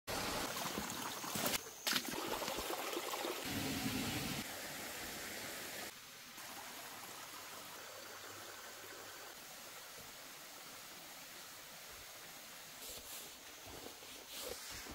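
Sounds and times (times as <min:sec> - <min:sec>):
stream trickling and babbling: 0:00.1 - 0:14.9.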